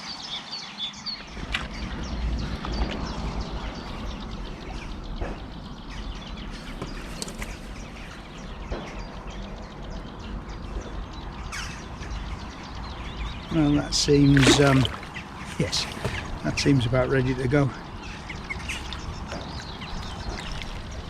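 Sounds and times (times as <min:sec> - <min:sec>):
small birds chirping: 0:00.0 - 0:21.0
steady low rumble: 0:01.0 - 0:21.0.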